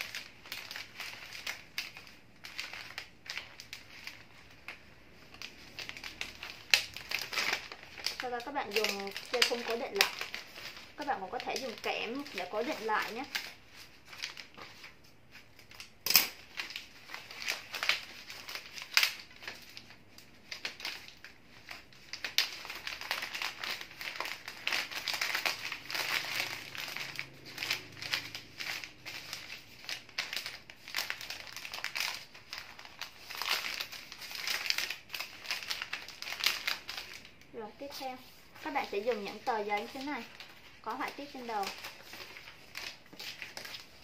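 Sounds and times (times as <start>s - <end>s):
paper wrapping crinkling: 0.0s - 44.0s.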